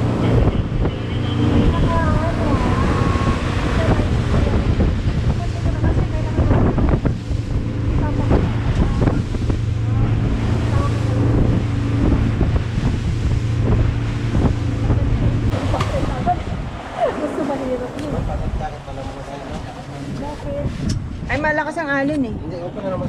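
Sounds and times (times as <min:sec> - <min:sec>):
water splashing: 0:00.0 - 0:21.4
jet ski engine droning: 0:00.0 - 0:23.0
wind buffeting microphone: 0:00.0 - 0:23.0.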